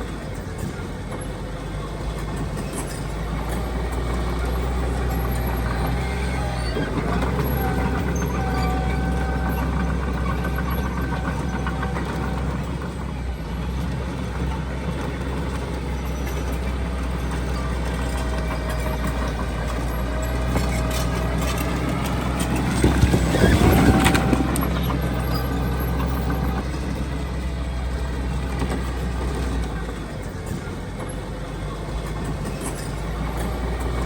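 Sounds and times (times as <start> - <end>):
diesel machinery engine drone: 0.0 - 34.0
metallic clanking: 0.2 - 34.0.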